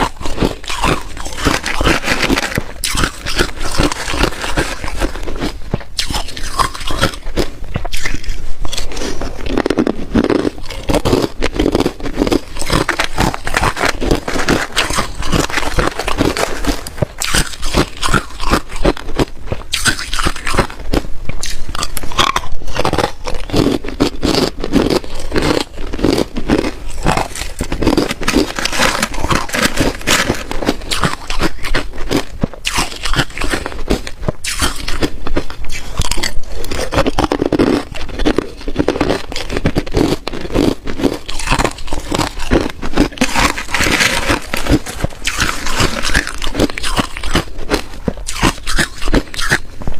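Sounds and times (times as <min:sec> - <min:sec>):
person chewing ice: 0:00.0 - 0:49.9.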